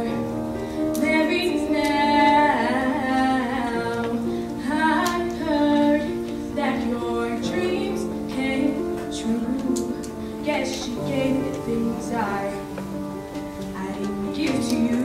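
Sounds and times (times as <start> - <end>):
girl singing into a microphone: 0.0 - 15.0
held instrumental accompaniment: 0.0 - 15.0.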